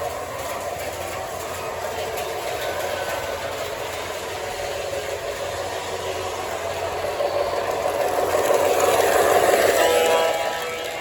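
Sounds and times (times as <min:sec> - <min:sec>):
model train motor and rail rumble: 0:00.0 - 0:11.0.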